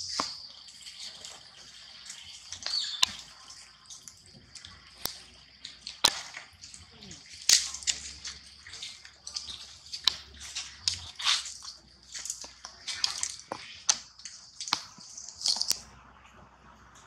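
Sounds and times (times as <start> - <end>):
twigs snapping: 0.0 - 15.9
dry leaves crackling underfoot: 0.0 - 17.0.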